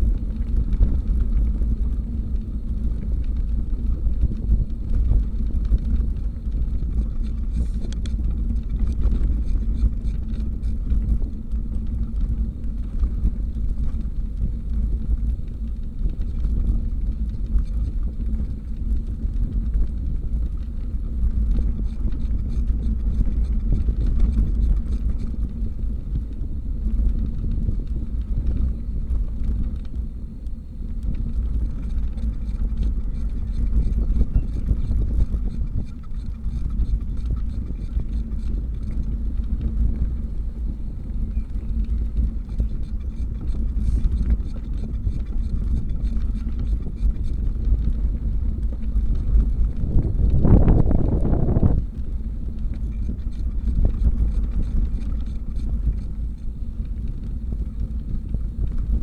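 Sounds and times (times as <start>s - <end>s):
bicycle tyre and road noise: 0.0s - 59.0s
wind buffeting microphone: 0.0s - 59.0s.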